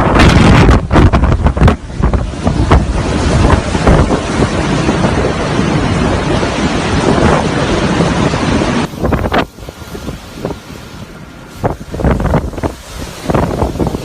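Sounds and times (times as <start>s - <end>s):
storm wind on microphone: 0.0s - 14.0s.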